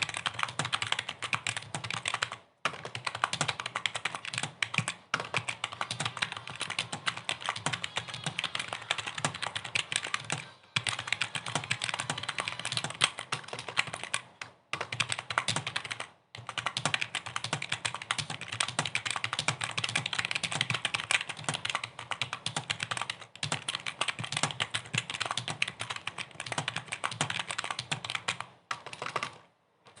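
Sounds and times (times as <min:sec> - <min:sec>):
fast keyboard typing: 0:00.0 - 0:30.0.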